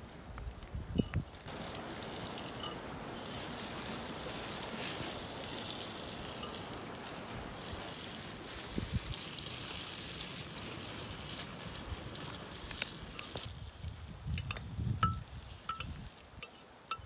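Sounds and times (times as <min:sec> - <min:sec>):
meat sizzling in a pot: 0:00.0 - 0:17.0
wood fire crackling: 0:00.0 - 0:17.0.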